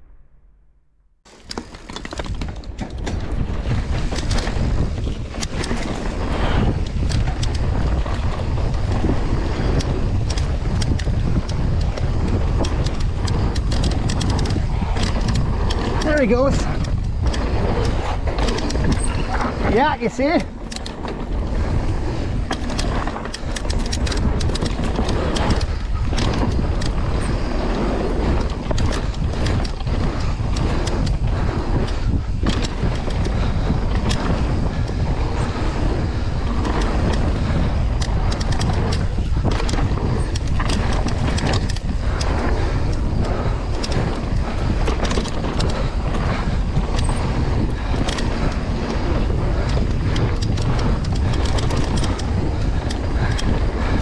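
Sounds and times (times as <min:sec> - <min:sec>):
bike clicking and rattling: 0:01.2 - 0:54.0
tyres rolling on dirt: 0:01.3 - 0:54.0
wind on microphone: 0:01.3 - 0:54.0.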